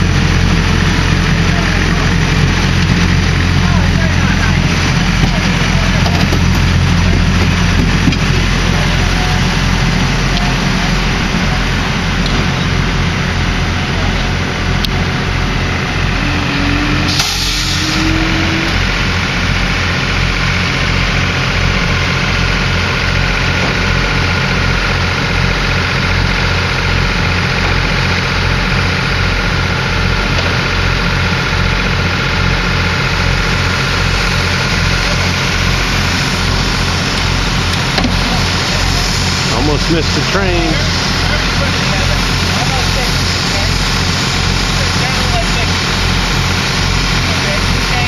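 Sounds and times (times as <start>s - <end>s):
locomotive engine throbbing: 0.0s - 48.0s
train coaches rolling past: 0.0s - 48.0s.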